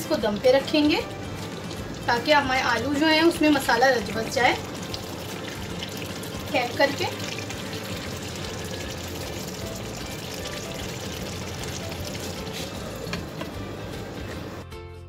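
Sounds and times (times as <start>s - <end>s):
curry bubbling and sizzling: 0.0s - 14.6s
background music: 0.0s - 15.0s.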